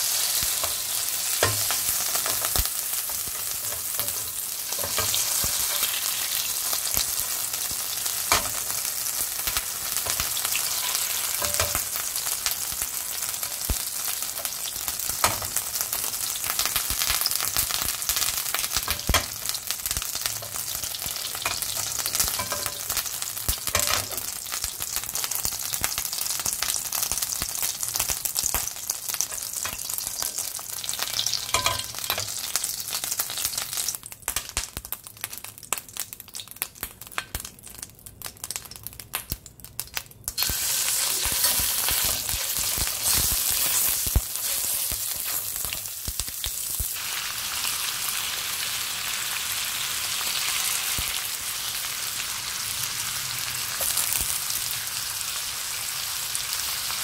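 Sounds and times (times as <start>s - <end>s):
butter sizzling in a frying pan: 0.0s - 57.0s
meat frying in butter: 0.0s - 57.0s.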